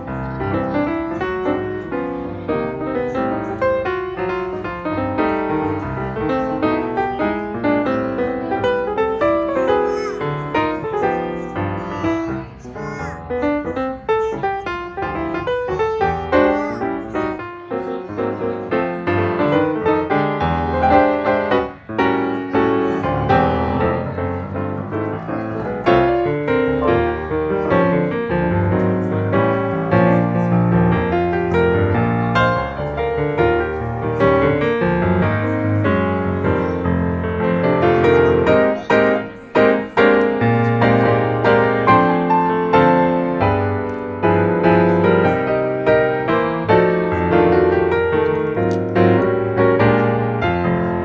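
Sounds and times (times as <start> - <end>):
piano piece with quick runs: 0.0 - 51.0.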